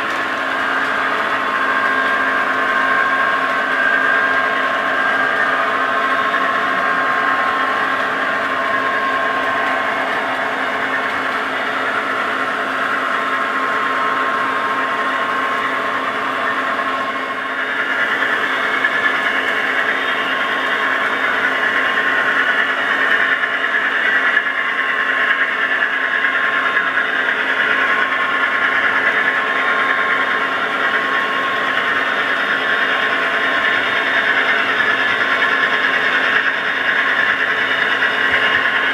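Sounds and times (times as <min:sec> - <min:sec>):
model locomotive engine sound: 0:00.0 - 0:38.9.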